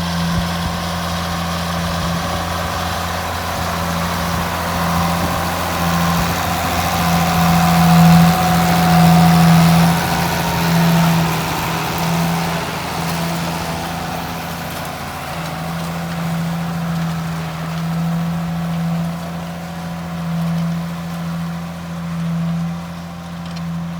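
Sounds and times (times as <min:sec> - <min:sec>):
tractor diesel engine droning: 0:00.0 - 0:23.9.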